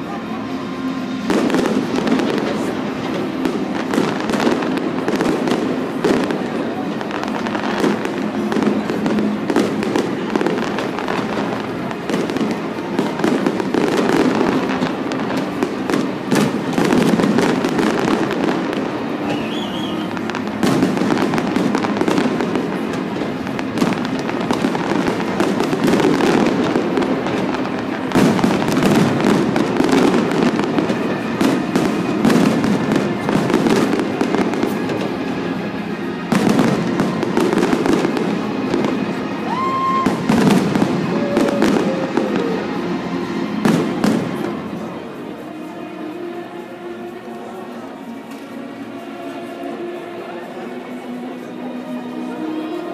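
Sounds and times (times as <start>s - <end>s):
fireworks bangs and crackle: 0.0s - 49.5s.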